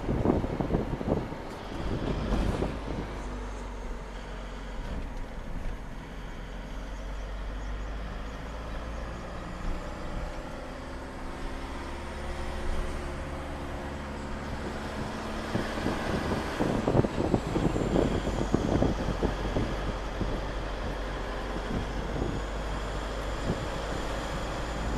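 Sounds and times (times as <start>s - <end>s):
vehicle engine and road rumble: 0.0s - 24.9s.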